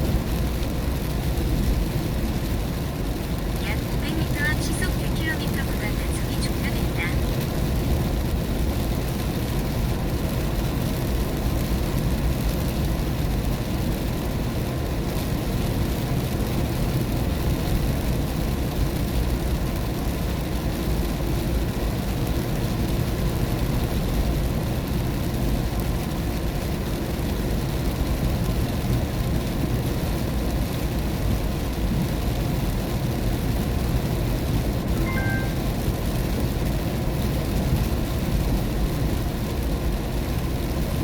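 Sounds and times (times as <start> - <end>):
rain on car: 0.0 - 41.0
road and tyre noise inside car: 0.0 - 41.0.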